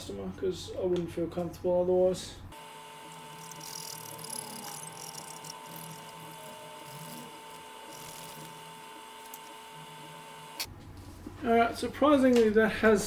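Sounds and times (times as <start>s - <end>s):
thin electrical whine and hum: 0.0s - 13.0s.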